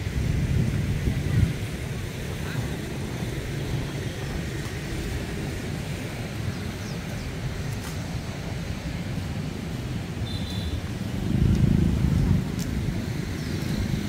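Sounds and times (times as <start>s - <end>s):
motorbikes passing: 0.0s - 14.0s.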